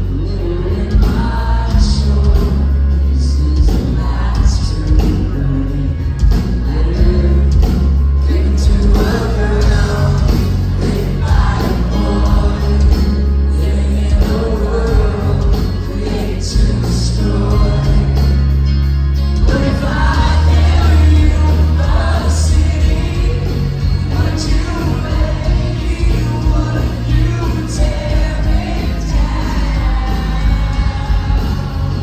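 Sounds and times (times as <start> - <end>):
lead vocal singing: 0.0 - 32.0
live rock band playing: 0.0 - 32.0.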